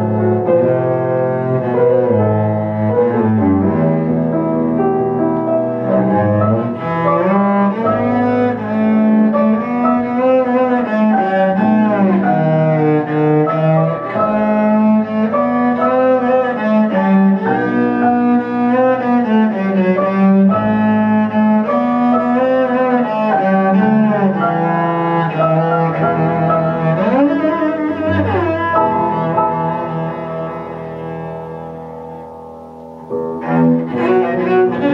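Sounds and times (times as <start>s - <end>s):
cello and piano classical music: 0.0s - 34.9s.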